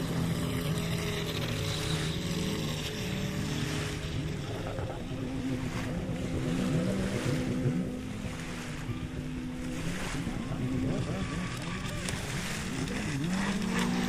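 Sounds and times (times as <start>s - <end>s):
speedboat motor whining: 0.0s - 14.0s.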